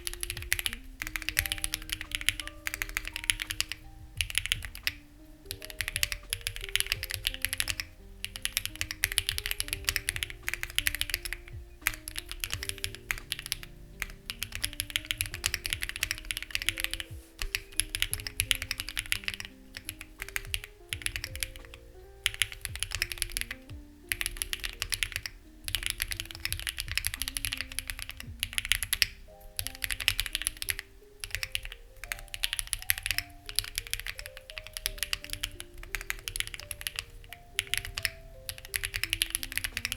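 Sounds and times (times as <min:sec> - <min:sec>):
mechanical keyboard typing: 0:00.0 - 0:39.9
soft background music: 0:00.0 - 0:39.9.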